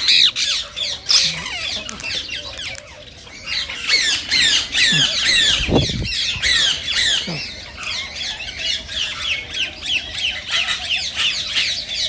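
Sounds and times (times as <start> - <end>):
parakeets squawking: 0.0 - 12.0.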